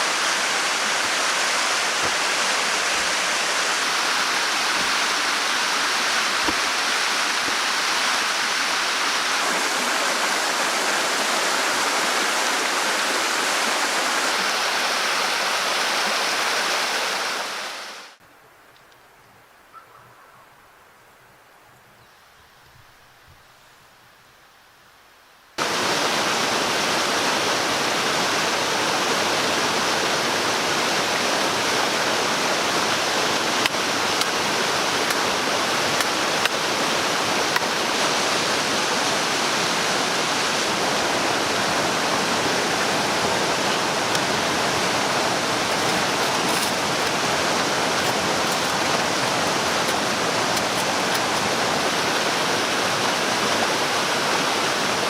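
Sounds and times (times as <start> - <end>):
rushing water: 0.0 - 18.2, 25.6 - 55.0.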